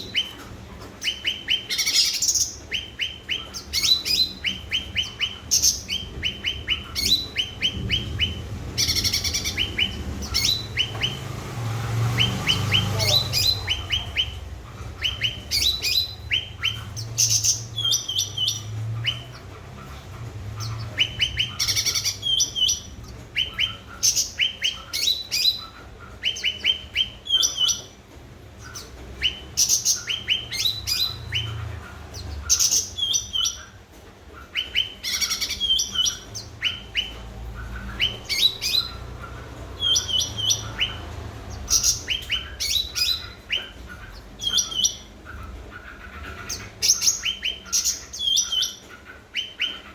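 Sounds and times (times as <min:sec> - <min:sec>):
songbird chirping: 0:00.0 - 0:49.9.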